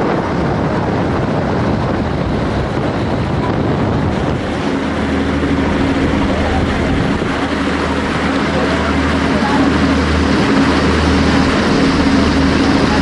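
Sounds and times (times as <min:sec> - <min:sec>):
boat engine drone: 0:00.0 - 0:13.0
water rushing past boat: 0:00.0 - 0:13.0
wind buffeting microphone: 0:00.0 - 0:13.0.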